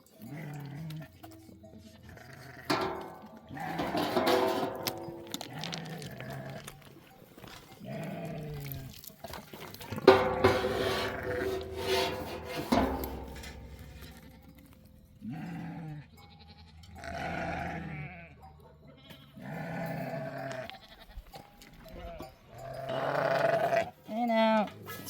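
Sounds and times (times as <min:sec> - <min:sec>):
sheep and goats bleating: 0:00.0 - 0:09.2, 0:09.8 - 0:24.8.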